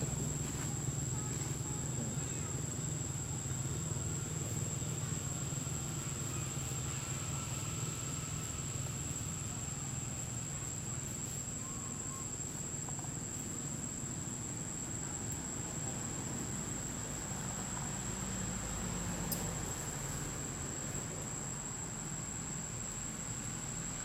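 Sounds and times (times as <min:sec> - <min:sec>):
insects droning high-pitched: 0:00.0 - 0:24.0.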